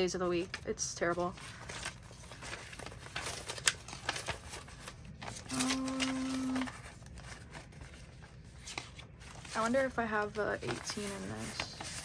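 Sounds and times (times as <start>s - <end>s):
paper labels rustling: 0.0s - 12.0s.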